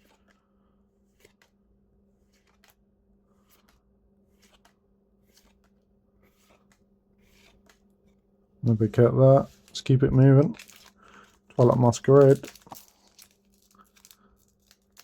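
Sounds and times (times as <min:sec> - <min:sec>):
trading cards rustling and clicking: 0:00.0 - 0:00.4, 0:01.1 - 0:01.6, 0:02.2 - 0:08.2, 0:08.8 - 0:15.0
low steady hum: 0:00.0 - 0:15.0.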